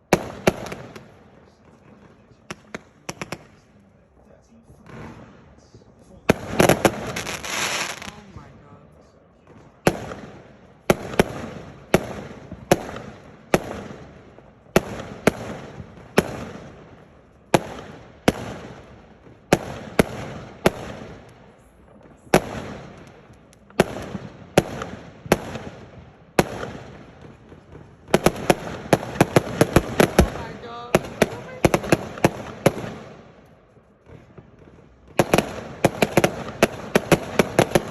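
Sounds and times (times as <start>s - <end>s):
fireworks exploding: 0.0s - 37.9s.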